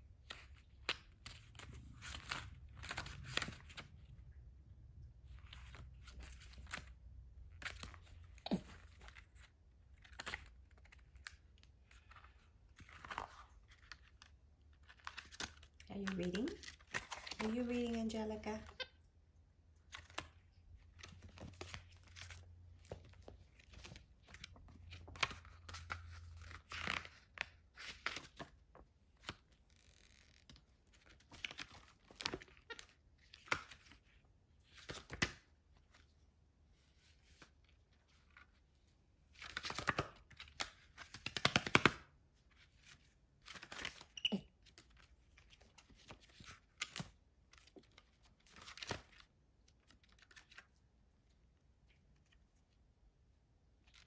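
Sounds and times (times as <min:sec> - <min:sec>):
book pages rustling and flipping: 0:00.0 - 0:04.4, 0:05.0 - 0:18.8, 0:19.8 - 0:52.8, 0:53.8 - 0:54.0.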